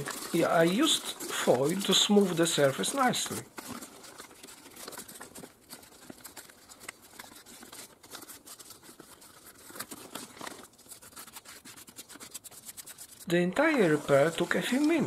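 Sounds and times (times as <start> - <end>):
plastic foil crinkling: 0.0 - 15.0.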